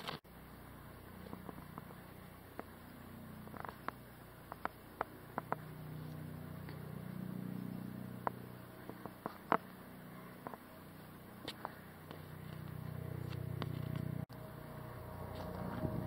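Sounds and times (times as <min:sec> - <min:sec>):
distant engine humming: 0:00.3 - 0:16.0.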